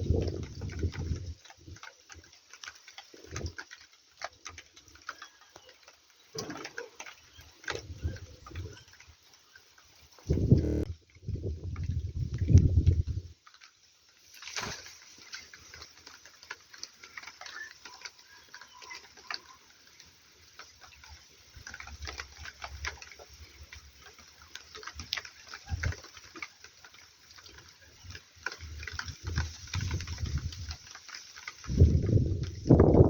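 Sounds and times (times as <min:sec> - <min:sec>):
rain pattering and dripping: 0:00.0 - 0:33.0.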